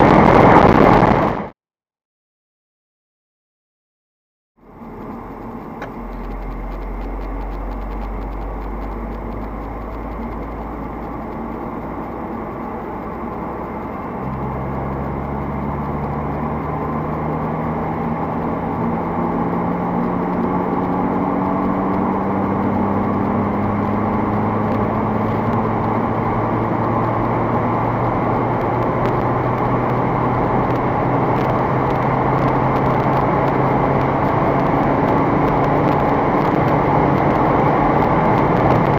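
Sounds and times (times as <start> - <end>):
wind noise: 0.0 - 1.5, 4.6 - 38.9
car engine pulling hard: 4.6 - 38.9.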